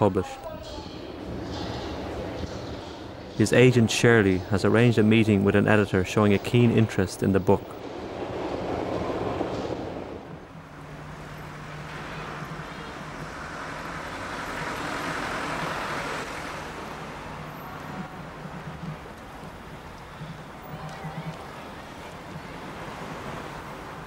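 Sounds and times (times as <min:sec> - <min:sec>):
traffic hum: 0:00.0 - 0:24.0
vehicle passing: 0:00.6 - 0:24.0.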